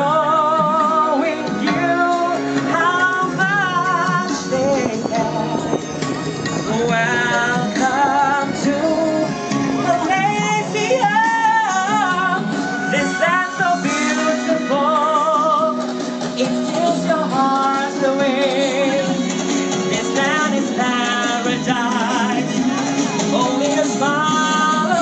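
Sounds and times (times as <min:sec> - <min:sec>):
instrumental accompaniment: 0:00.0 - 0:25.0
man singing with vibrato: 0:00.0 - 0:25.0.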